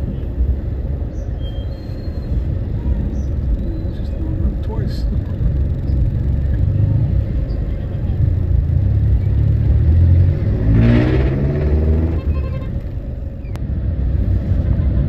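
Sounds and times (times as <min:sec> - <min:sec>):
idling street traffic rumble: 0:00.0 - 0:15.0
vehicle engine revving: 0:02.5 - 0:15.0.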